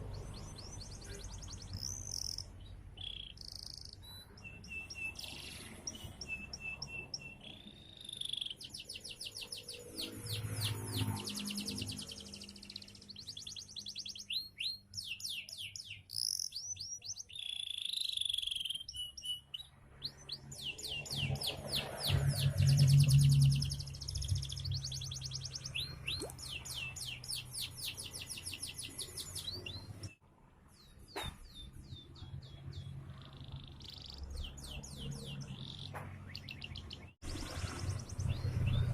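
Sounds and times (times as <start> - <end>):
canary singing trills and chirps: 0.0 - 30.2, 30.8 - 38.9.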